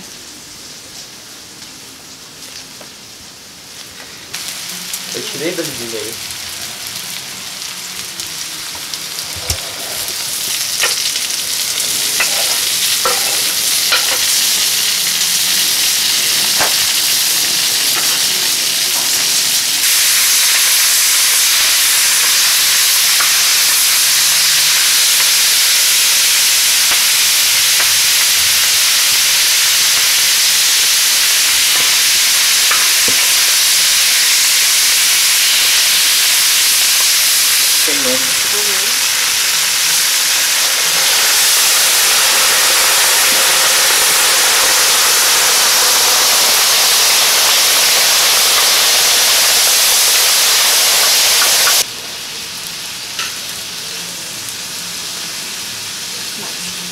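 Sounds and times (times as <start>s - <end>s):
meat and vegetables sizzling: 0.0s - 56.9s.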